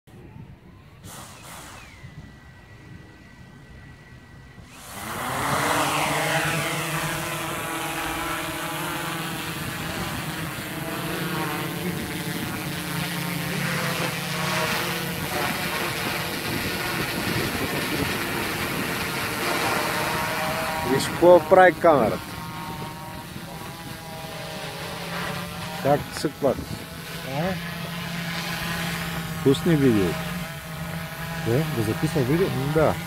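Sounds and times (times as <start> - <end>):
drone propeller buzz: 1.0 - 33.0.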